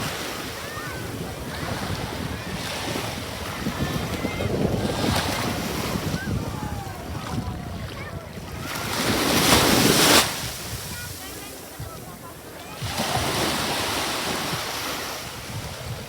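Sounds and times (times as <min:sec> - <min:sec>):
sea waves washing on shore: 0:00.0 - 0:16.0
wind on microphone: 0:00.0 - 0:16.0.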